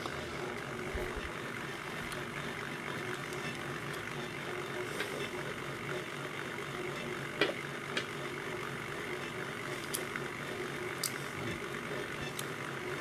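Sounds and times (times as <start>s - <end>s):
electric motor running: 0.0s - 13.0s.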